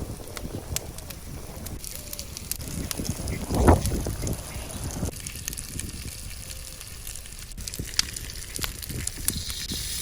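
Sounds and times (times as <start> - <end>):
wood fire crackling and popping: 0.0 - 10.0.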